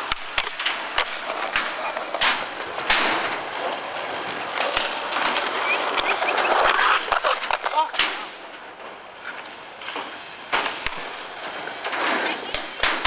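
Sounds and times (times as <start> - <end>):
skateboard clacking on ground: 0.0 - 13.0
skateboard rolling on concrete: 0.0 - 13.0.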